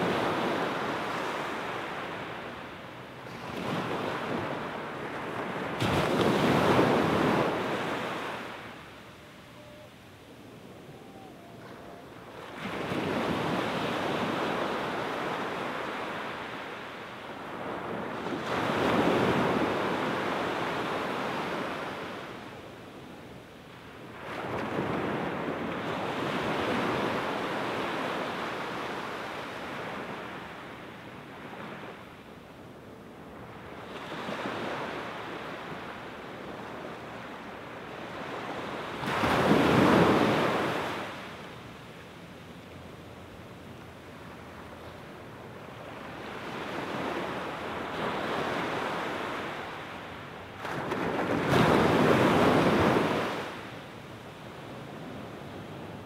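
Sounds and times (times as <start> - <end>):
small waves breaking on sand: 0.0 - 2.7, 3.3 - 9.0, 12.2 - 22.6, 23.8 - 32.1, 33.3 - 43.0, 43.8 - 56.0.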